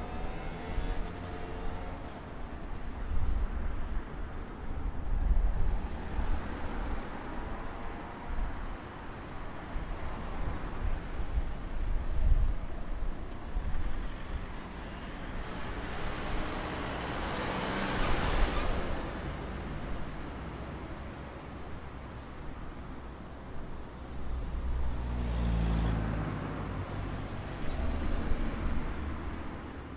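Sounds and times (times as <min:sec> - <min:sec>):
passing cars: 0:00.0 - 0:29.9.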